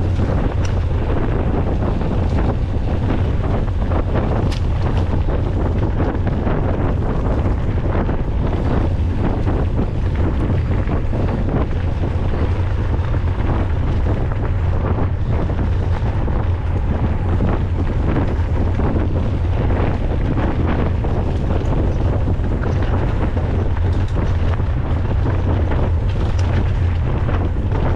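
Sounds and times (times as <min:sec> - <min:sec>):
bike knocks and rattles: 0:00.0 - 0:27.9
wind buffeting microphone: 0:00.0 - 0:27.9.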